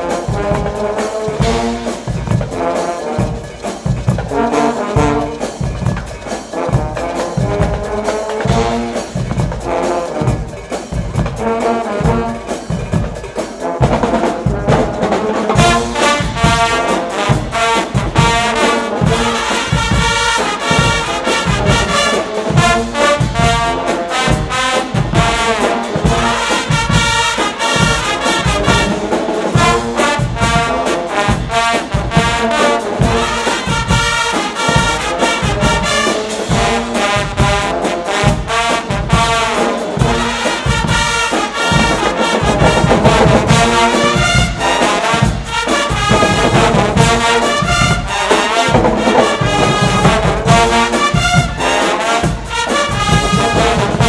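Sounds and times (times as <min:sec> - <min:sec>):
brass band playing: 0:00.0 - 0:54.0
steady low drum beat: 0:00.0 - 0:54.0.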